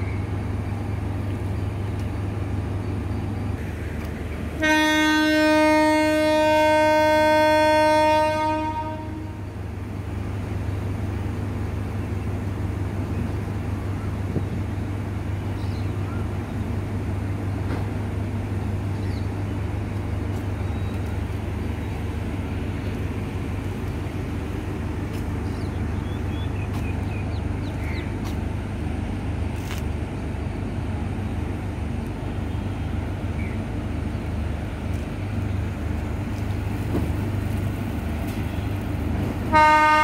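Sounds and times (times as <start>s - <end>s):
diesel train engines humming: 0.0s - 40.0s.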